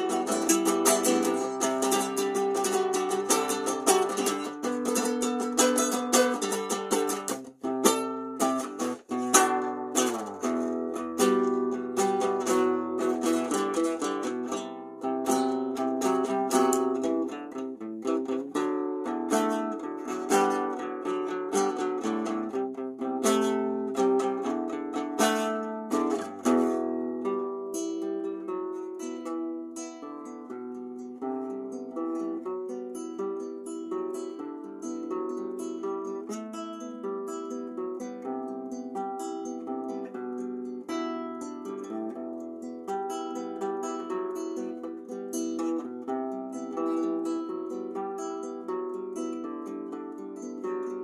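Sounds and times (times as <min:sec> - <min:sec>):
plucked string instrument: 0:00.0 - 0:51.0.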